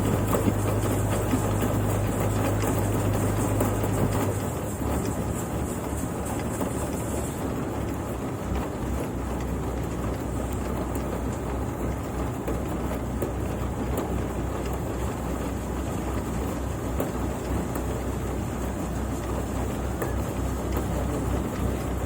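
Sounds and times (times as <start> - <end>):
machine engine hum: 0.0 - 22.0.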